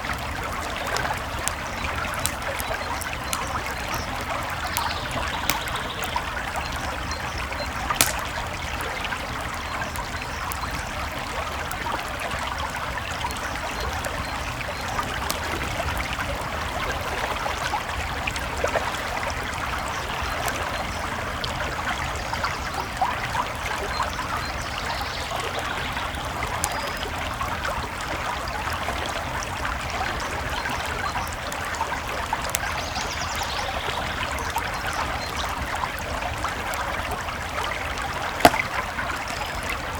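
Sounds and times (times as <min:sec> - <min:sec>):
campfire crackling: 0:00.0 - 0:22.4, 0:24.5 - 0:39.9
creek water flowing: 0:00.0 - 0:39.9.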